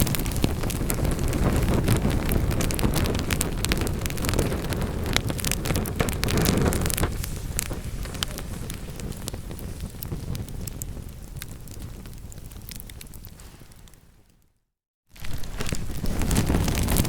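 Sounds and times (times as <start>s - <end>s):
burning wood crackling: 0.0s - 14.4s, 15.1s - 17.0s
fire flame rumble: 0.0s - 14.4s, 15.1s - 17.0s.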